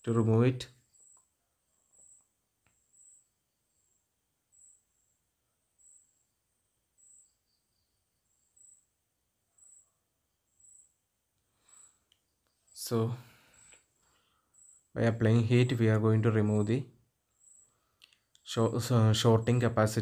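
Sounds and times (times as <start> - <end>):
faint high-pitched chirp: 0.0 - 19.8.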